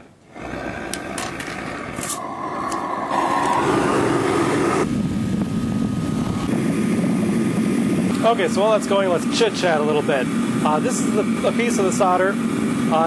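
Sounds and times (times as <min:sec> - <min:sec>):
propane burner rushing: 0:00.0 - 0:13.0.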